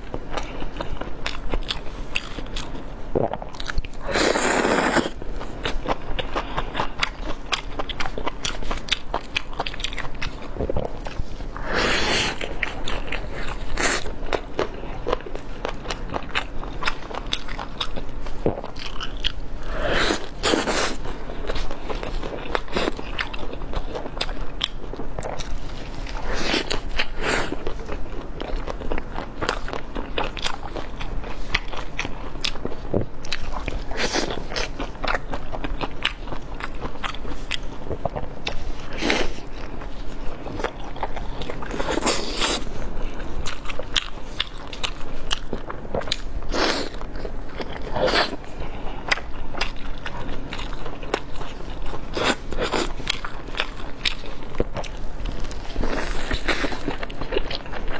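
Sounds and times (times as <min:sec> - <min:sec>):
chewing crunchy food: 0:00.0 - 0:57.9.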